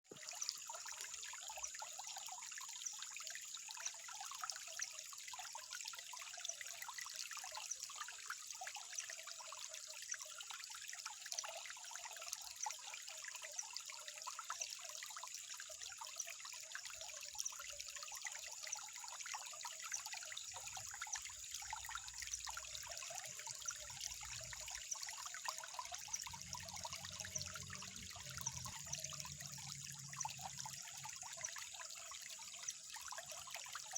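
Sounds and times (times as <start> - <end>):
water trickling: 0.0 - 33.9.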